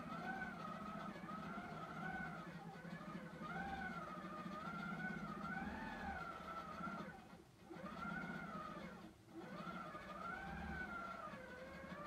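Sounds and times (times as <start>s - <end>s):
quilting machine motor whine: 0.0s - 12.0s.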